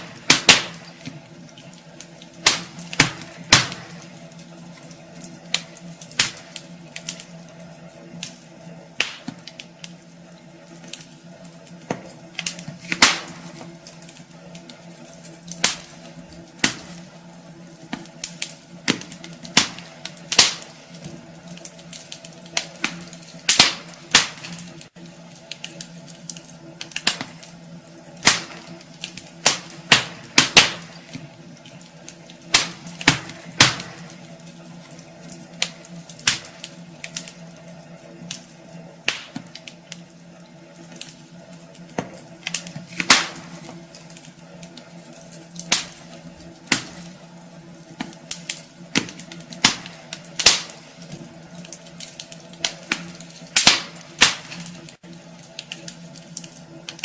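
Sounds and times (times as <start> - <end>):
faint steady hum: 0.0 - 57.0
wood fire crackling and popping: 0.0 - 57.0.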